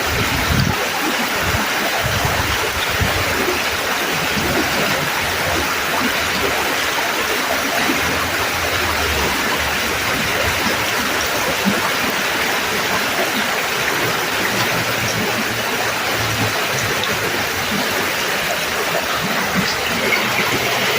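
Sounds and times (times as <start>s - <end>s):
creek water rushing: 0.0s - 20.9s.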